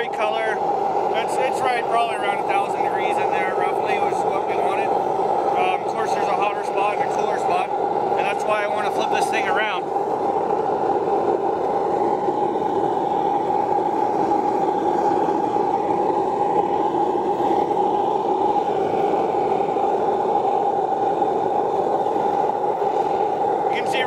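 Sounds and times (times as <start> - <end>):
furnace roaring: 0.0 - 24.0.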